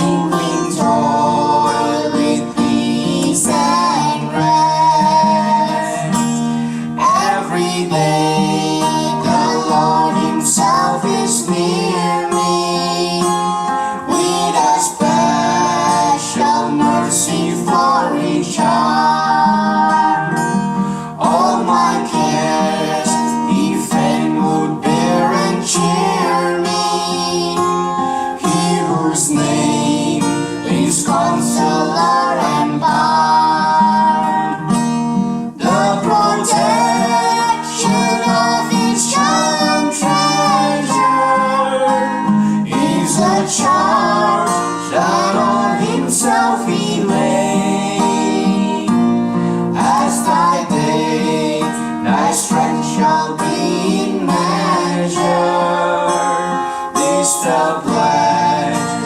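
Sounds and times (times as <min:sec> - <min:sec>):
man and woman singing duet: 0:00.0 - 0:59.0
strummed acoustic guitar: 0:00.0 - 0:59.0.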